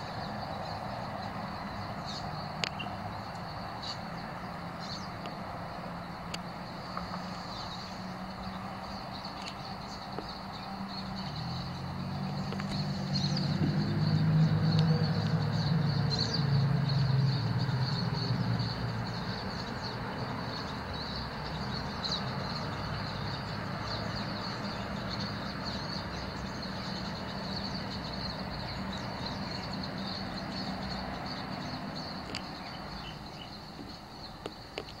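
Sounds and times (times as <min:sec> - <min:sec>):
finches twittering: 0:00.0 - 0:35.0
low engine hum: 0:00.0 - 0:35.0.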